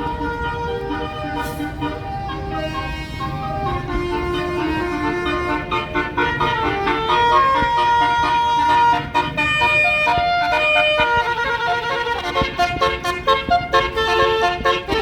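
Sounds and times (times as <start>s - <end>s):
musical air horn tune: 0.0s - 15.0s.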